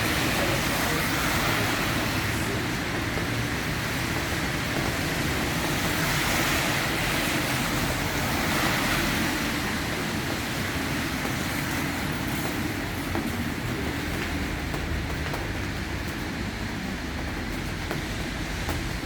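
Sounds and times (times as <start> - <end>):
rain: 0.0 - 19.0
traffic on wet streets: 0.0 - 19.0.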